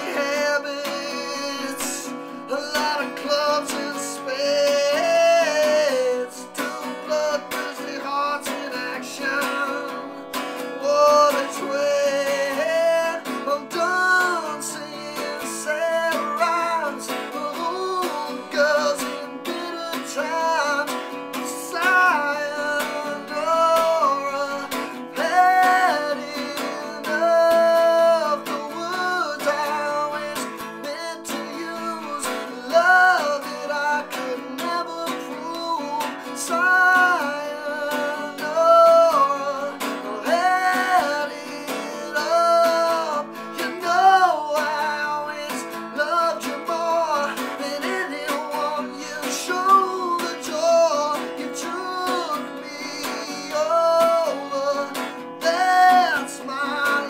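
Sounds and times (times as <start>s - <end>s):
man singing: 0.0s - 57.0s
strummed acoustic guitar: 0.0s - 57.0s.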